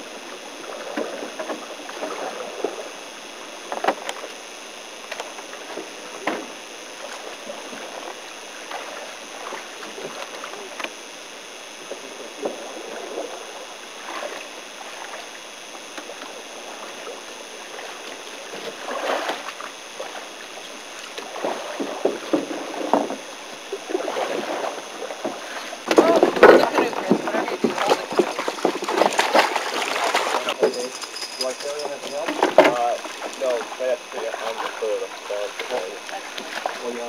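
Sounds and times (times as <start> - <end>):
water sloshing and splashing: 0.0 - 3.0, 5.1 - 11.0, 11.8 - 37.0.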